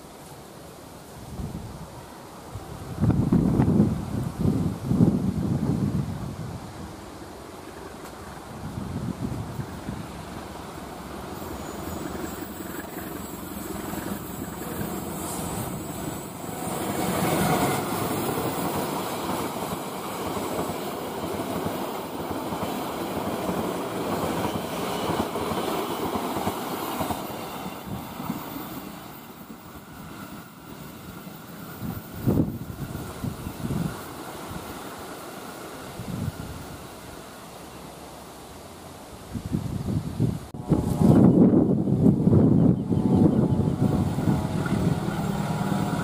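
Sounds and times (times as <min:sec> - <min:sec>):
train wheels rumbling on rails: 0:02.7 - 0:37.4, 0:40.5 - 0:46.0.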